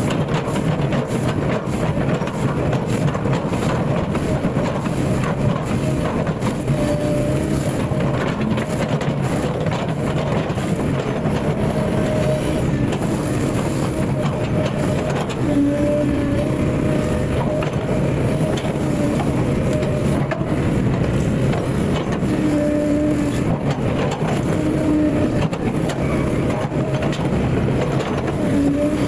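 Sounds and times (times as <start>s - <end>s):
diesel engine under load: 0.0s - 29.0s
hydraulic whine: 0.0s - 29.0s.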